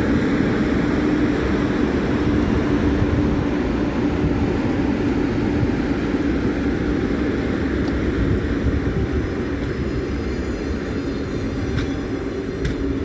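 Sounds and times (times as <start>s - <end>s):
train rumble with hum: 0.0s - 13.0s.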